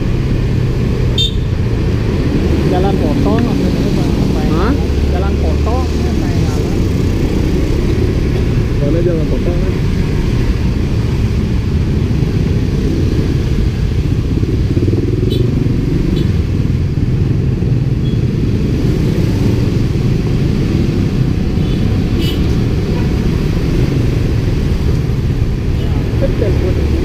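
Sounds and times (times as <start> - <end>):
scooter traffic rumbling: 0.0 - 27.0.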